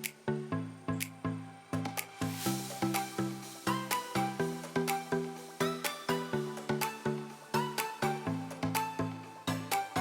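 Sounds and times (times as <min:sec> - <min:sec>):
upbeat music with plucked notes: 0:01.9 - 0:10.0.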